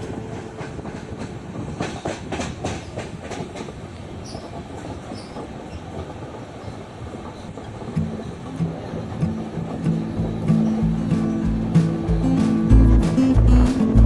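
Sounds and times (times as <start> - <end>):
train rumbling on track: 0.0 - 14.0
wheel clacks over rail joints: 0.0 - 14.0.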